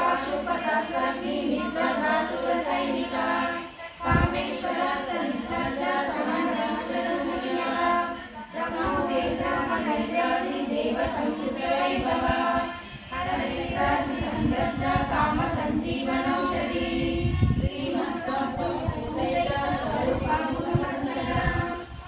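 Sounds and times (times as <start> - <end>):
women chanting in unison: 0.0 - 22.0.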